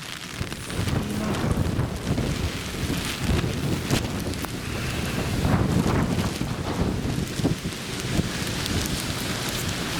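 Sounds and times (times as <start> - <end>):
rain: 0.0 - 9.9
wind buffeting microphone: 0.2 - 9.9.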